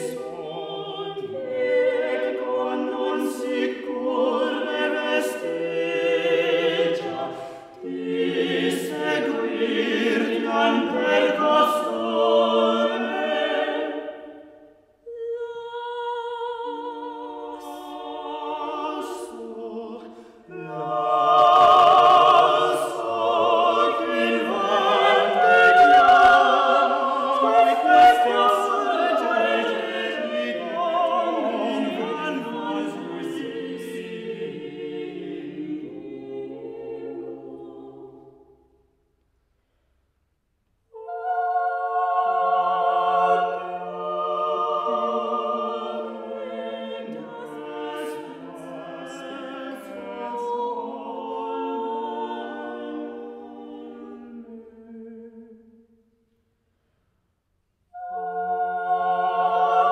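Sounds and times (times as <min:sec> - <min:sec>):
vocal quartet singing a madrigal: 0:00.0 - 0:38.7, 0:40.9 - 0:55.8, 0:57.9 - 0:59.9.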